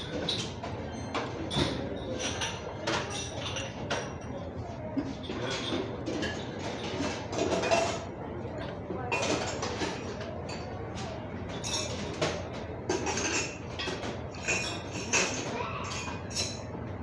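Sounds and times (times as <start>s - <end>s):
cutlery clinking against bowl: 0.0s - 4.4s, 5.0s - 16.8s.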